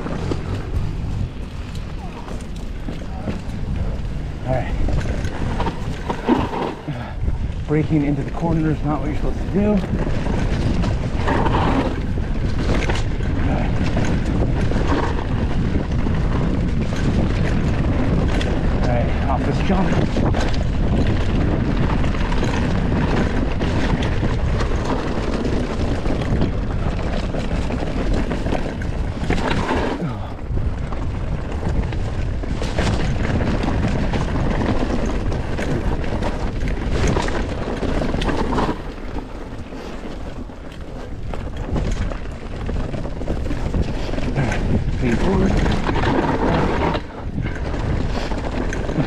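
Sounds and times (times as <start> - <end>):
bike knocks and rattles: 0.0 - 49.0
tyre noise on dirt: 0.0 - 49.0
wind on microphone: 0.0 - 49.0.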